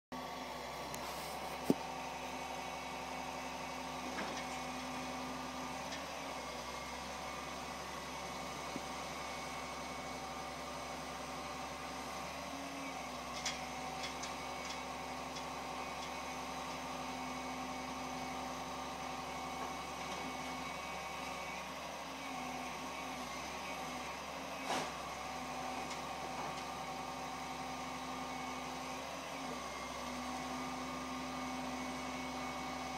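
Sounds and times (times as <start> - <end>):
truck engine and hydraulic hum: 0.2 - 32.9.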